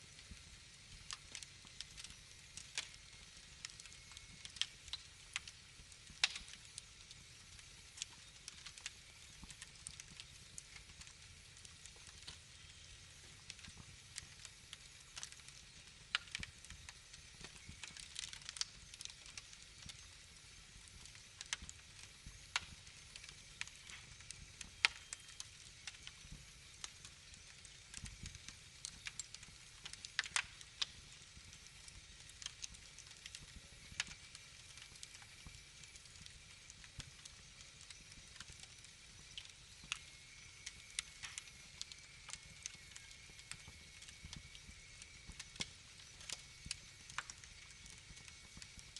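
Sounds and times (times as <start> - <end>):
faint steady hiss: 0.0 - 48.9
wood fire crackling: 0.0 - 48.9.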